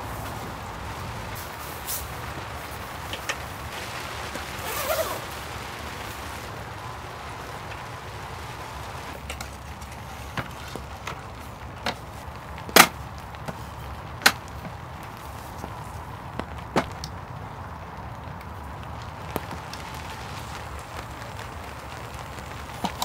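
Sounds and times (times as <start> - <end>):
steady soft hiss: 0.0 - 23.0.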